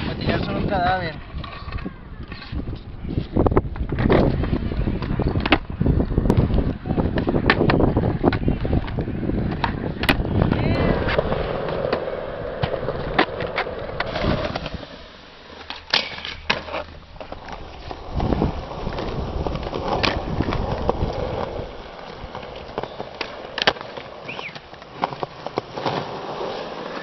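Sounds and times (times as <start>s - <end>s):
skateboard wheels rolling on concrete: 0.0s - 27.0s
skateboard clacks: 1.3s - 27.0s.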